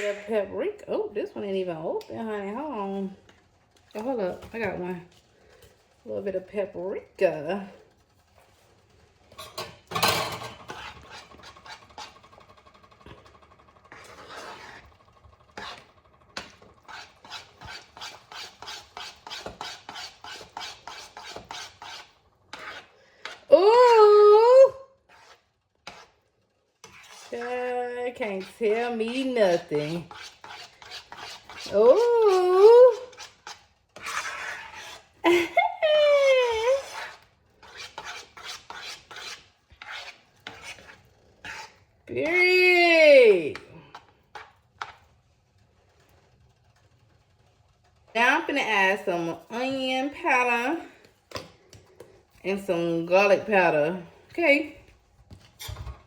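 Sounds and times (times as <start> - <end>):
utensil stirring sauce in pot: 0.8 - 56.0.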